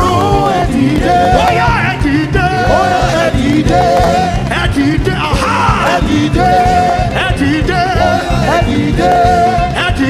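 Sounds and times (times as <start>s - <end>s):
live gospel music: 0.0s - 10.0s.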